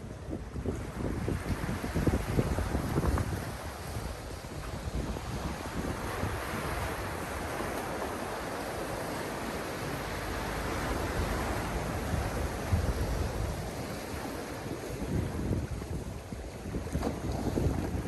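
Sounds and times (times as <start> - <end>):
waves washing onto a beach: 0.0 - 18.0
wind rumbling on microphone: 0.0 - 18.0.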